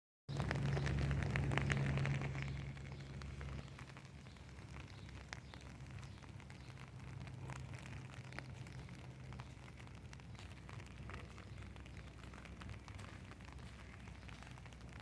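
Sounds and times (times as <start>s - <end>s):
low steady hum: 0.3s - 15.0s
rain drops tapping on a surface: 0.3s - 15.0s.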